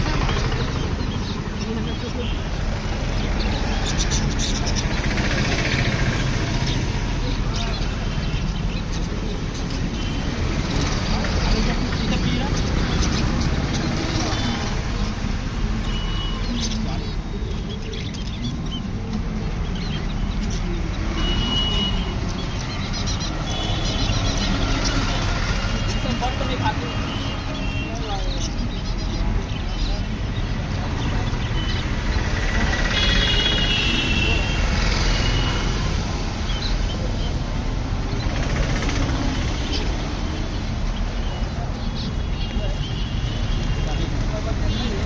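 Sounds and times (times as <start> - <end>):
caged birds chirping: 0.0 - 45.0
low traffic rumble: 0.0 - 45.0
outdoor market din: 0.0 - 45.0.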